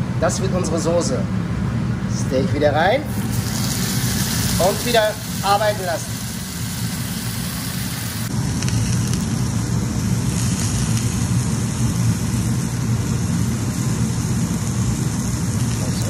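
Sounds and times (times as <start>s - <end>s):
steak sizzling in a frying pan: 3.1s - 16.0s.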